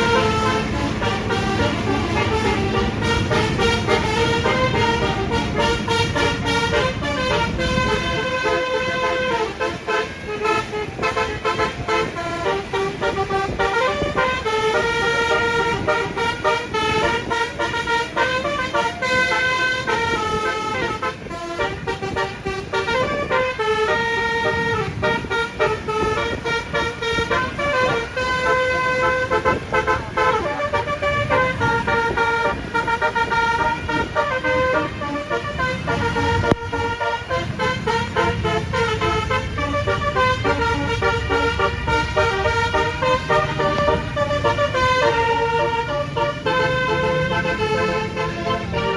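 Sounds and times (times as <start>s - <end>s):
low engine and road rumble: 0.0s - 48.9s
multi-tone bus horn melody: 0.0s - 48.9s.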